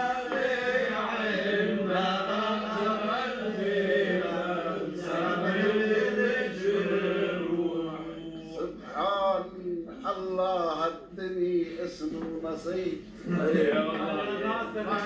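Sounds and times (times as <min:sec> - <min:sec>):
men chanting sung refrain: 0:00.0 - 0:15.0.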